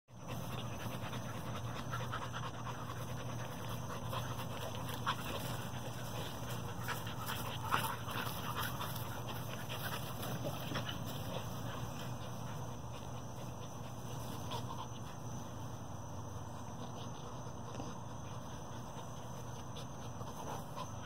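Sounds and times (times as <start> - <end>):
dogs panting: 0.1 - 21.0.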